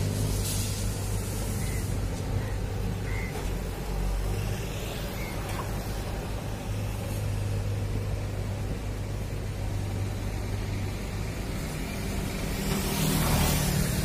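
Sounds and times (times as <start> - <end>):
road traffic rumble: 0.0 - 14.0
vehicle passing close by: 0.0 - 14.0.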